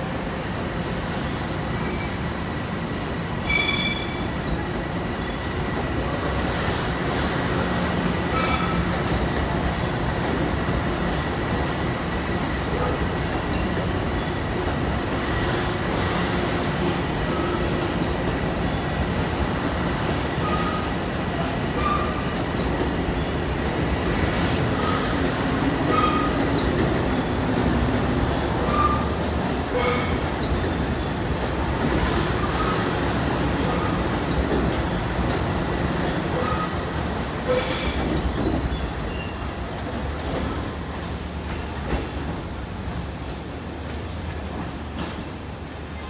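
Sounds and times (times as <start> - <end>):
train wheel and rail noise: 0.0 - 46.0.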